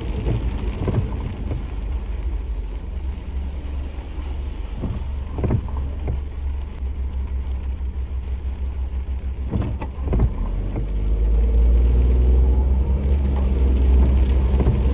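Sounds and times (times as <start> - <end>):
motor vehicle engine rumble: 0.0 - 14.9.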